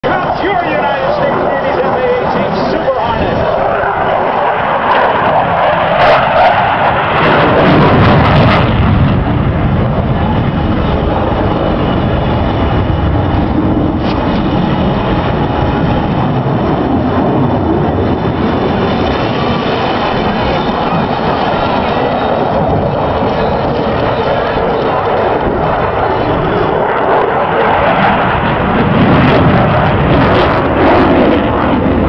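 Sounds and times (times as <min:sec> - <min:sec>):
jet engines roaring flyby: 0:00.0 - 0:32.0
jet noise crackles: 0:00.0 - 0:32.0.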